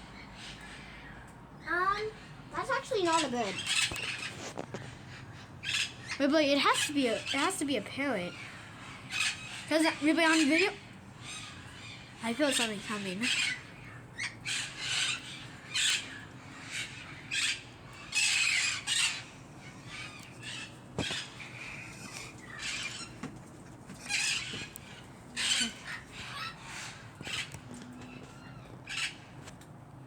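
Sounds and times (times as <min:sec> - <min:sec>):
parrots squawking: 0:00.2 - 0:29.5.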